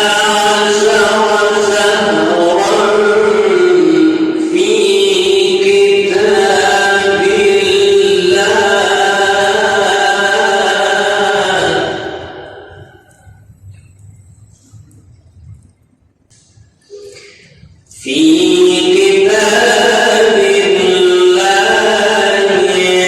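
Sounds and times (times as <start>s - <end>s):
man chanting melodically: 0.0s - 13.5s, 16.9s - 23.0s.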